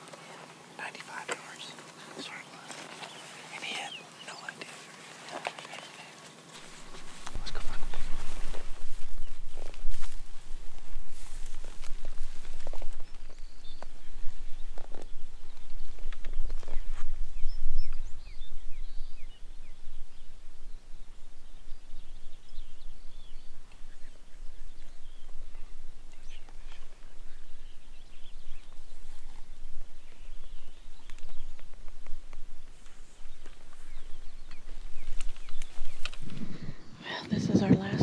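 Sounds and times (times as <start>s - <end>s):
footsteps crunching through dry grass: 0.0s - 18.3s, 23.8s - 36.6s
birds chirping: 0.0s - 38.0s
steady low rumble: 6.6s - 38.0s.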